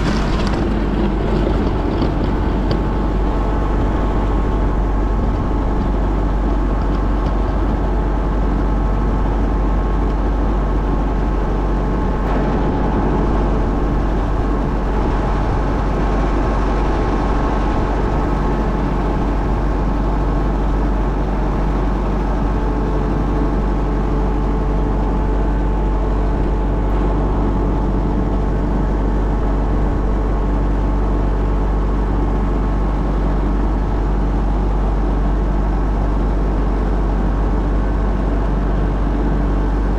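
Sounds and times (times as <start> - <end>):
motor droning steadily: 0.0 - 39.9.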